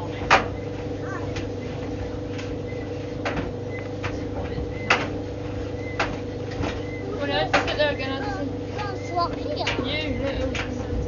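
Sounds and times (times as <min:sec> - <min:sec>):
tumble dryer humming: 0:00.0 - 0:11.0.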